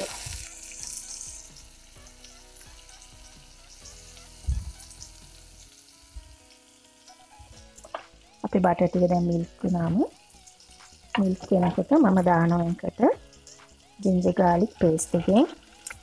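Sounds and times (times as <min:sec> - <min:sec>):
butter sizzling in a pot: 0:00.0 - 0:16.0.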